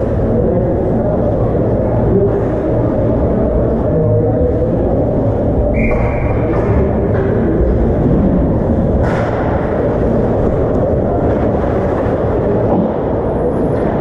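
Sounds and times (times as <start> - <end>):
ice hockey game rumble: 0.0 - 14.0.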